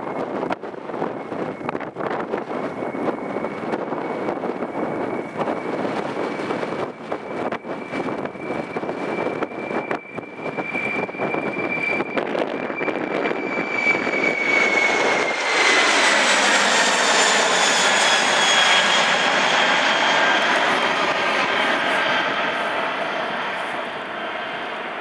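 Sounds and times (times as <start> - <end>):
high jet whine: 0.0 - 25.0
jet engines roaring: 0.0 - 25.0
wind buffeting microphone: 0.0 - 25.0.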